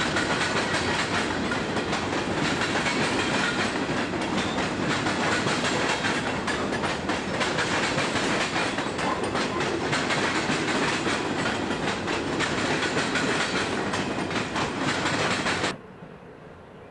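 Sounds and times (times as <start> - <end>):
freight train wheels clattering: 0.0 - 15.8.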